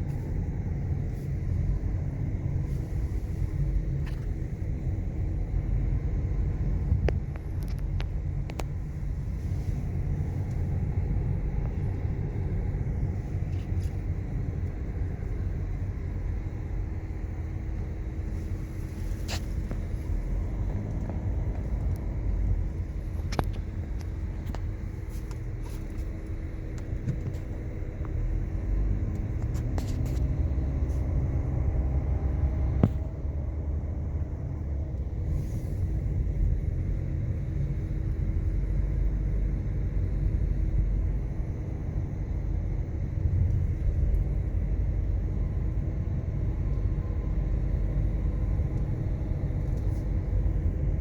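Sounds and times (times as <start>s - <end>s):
car road and engine rumble: 0.0s - 51.0s.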